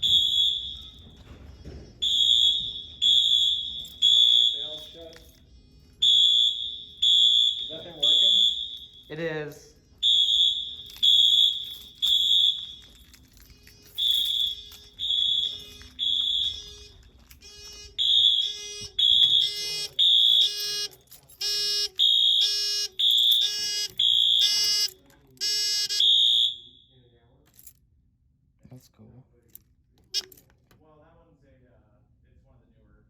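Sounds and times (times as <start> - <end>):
buzzy alarm horn: 0.0 - 26.9
fire alarm horns: 0.0 - 27.2, 30.0 - 30.5.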